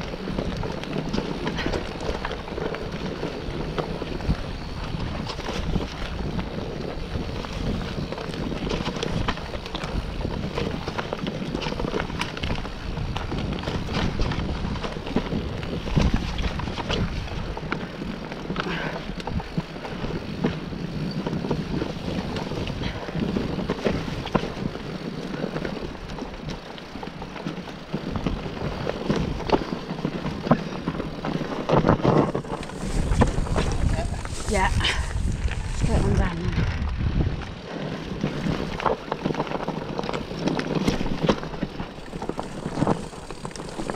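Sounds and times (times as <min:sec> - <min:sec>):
wind buffeting microphone: 0:00.0 - 0:26.6, 0:27.9 - 0:43.9
bike rattling and knocking: 0:00.0 - 0:43.9
tyres rolling on dirt: 0:00.0 - 0:43.9.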